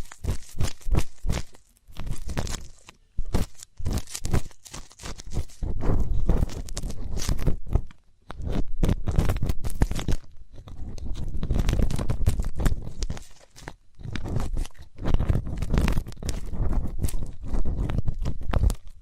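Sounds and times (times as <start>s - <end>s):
ear pick scraping: 0.0s - 19.0s.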